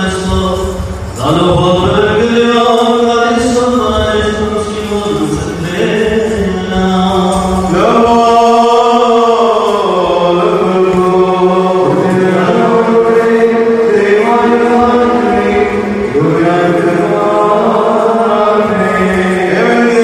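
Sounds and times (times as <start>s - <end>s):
man chanting into microphone: 0.0s - 20.0s.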